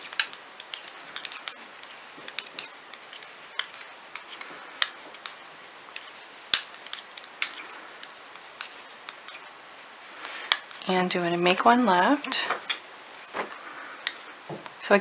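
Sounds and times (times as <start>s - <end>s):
knitting needles clicking: 0.0s - 9.6s, 10.2s - 12.8s, 14.0s - 14.8s.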